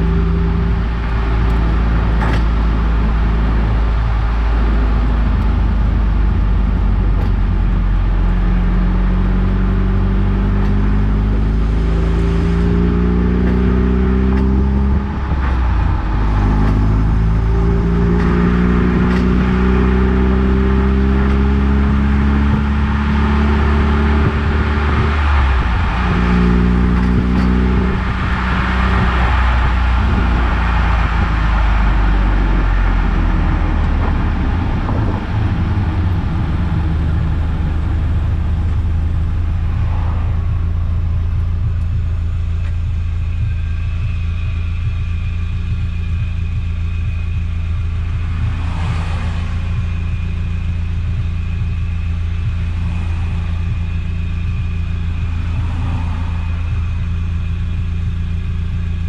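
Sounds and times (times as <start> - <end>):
car engine running: 0.0 - 59.0
road and tyre noise: 0.0 - 59.0.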